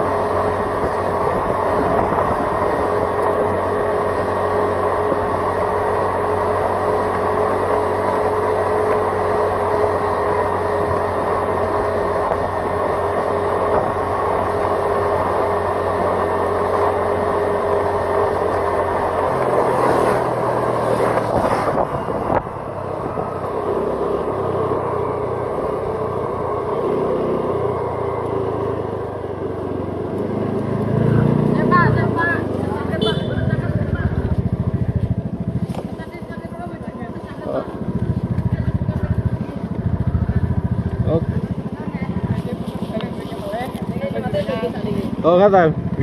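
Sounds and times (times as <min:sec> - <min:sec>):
vehicle engine and tyre noise: 0:00.0 - 0:46.0.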